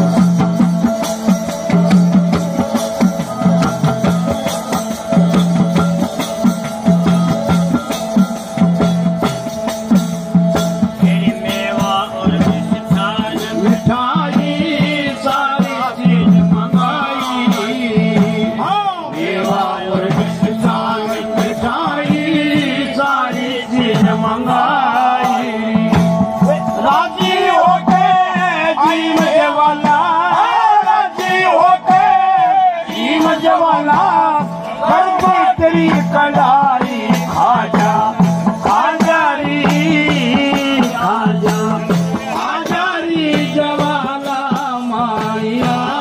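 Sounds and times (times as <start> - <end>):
frame drum beat: 0.0 - 46.0
men singing: 0.0 - 46.0.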